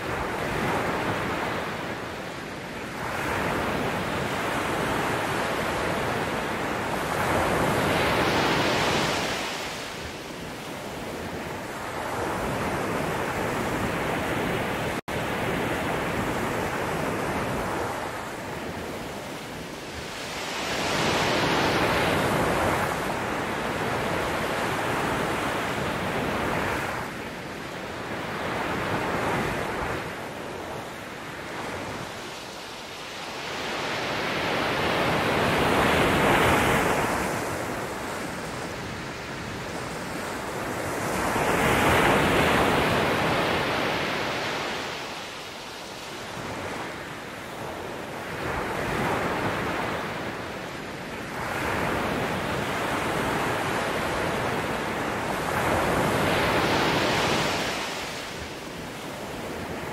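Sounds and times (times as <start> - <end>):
ocean surf washing in: 0.0 - 59.9.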